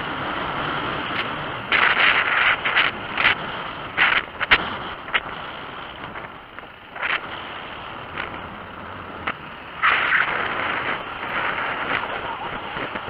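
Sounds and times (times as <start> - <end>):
motorcycle riding on rocky trail: 0.0 - 13.0
wind on microphone: 0.0 - 13.0.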